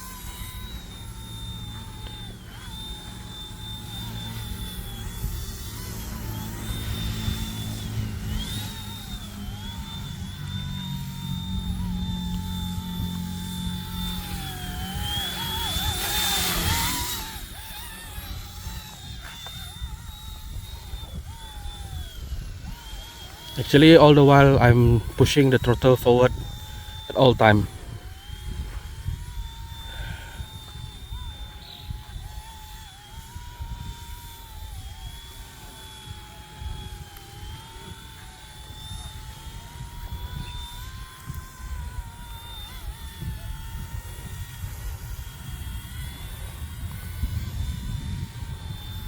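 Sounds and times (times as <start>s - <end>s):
rc helicopter motor whining: 0.0s - 49.0s
wind rumble on microphone: 0.0s - 49.0s.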